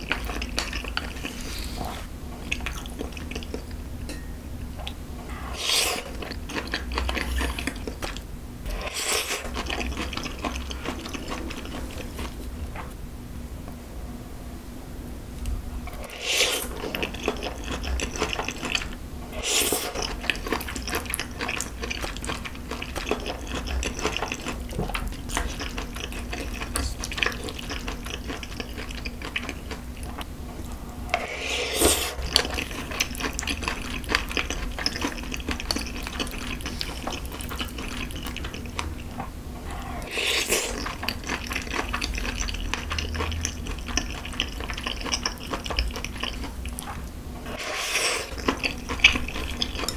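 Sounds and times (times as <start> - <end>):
wet chewing and slurping noodles: 0.0 - 3.8, 5.2 - 13.0, 15.9 - 49.9.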